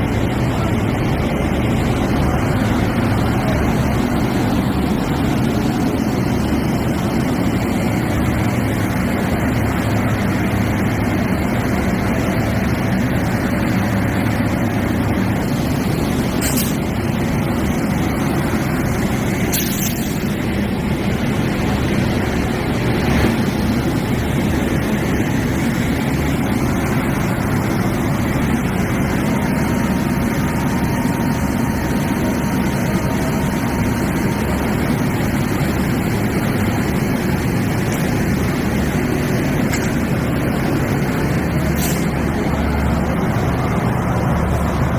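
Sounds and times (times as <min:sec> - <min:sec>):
locomotive low rumble: 0:00.0 - 0:44.9.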